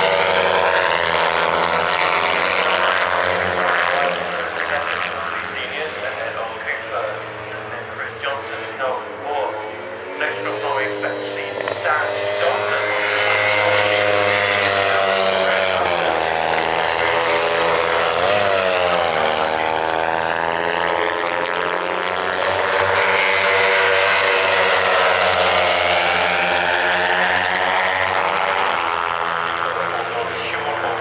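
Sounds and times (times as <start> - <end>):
race motorcycles passing: 0.0 - 31.0.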